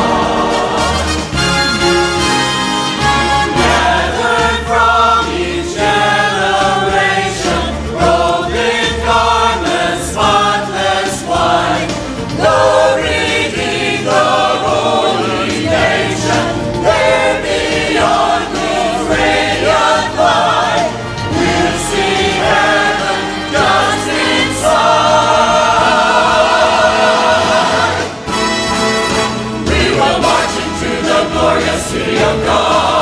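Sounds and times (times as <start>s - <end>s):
choir singing gospel: 0.0s - 33.0s
instrumental accompaniment: 0.0s - 33.0s.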